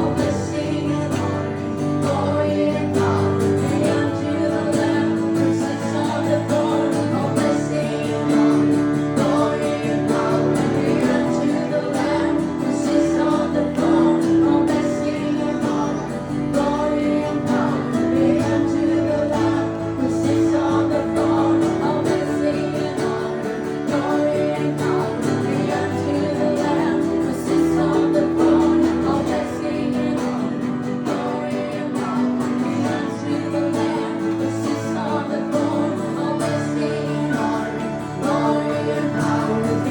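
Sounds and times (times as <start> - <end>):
acoustic guitar: 0.0 - 39.9
person singing: 0.0 - 39.9.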